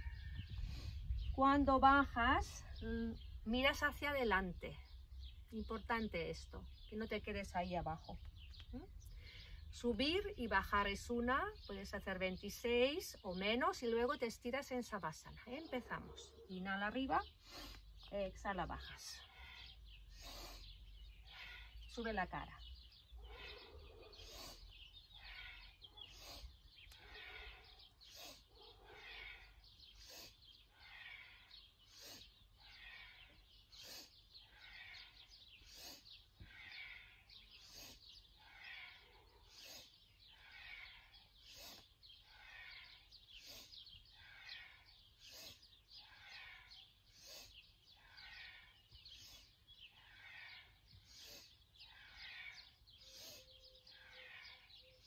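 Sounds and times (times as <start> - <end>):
faint birdsong: 0.0 - 55.0.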